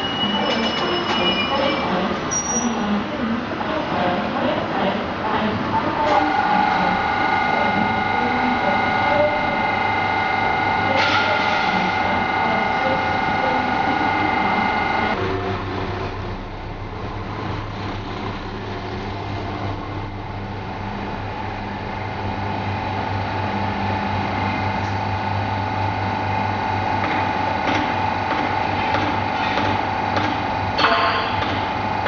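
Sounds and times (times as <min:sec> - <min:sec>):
train engine hum: 0:00.0 - 0:32.0.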